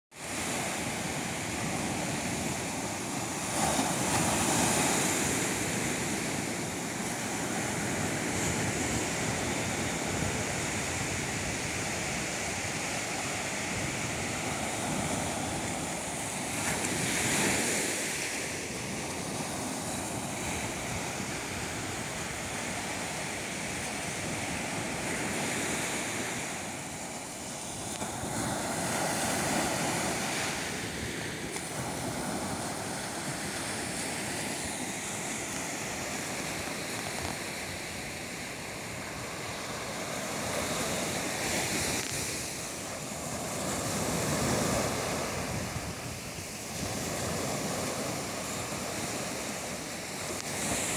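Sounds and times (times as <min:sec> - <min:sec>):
waves breaking on shore: 0:00.1 - 0:50.9.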